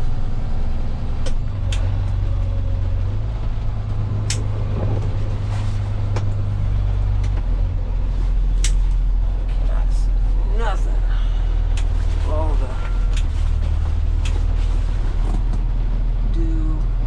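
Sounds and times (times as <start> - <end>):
tow truck engine droning: 0.0 - 17.0.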